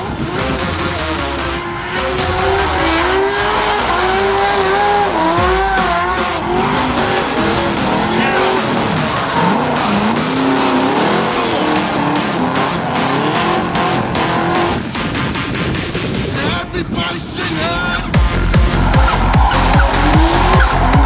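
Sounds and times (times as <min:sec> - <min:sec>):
tyres squealing and skidding: 0:00.0 - 0:16.3, 0:17.2 - 0:21.0
car engines revving: 0:00.0 - 0:21.0.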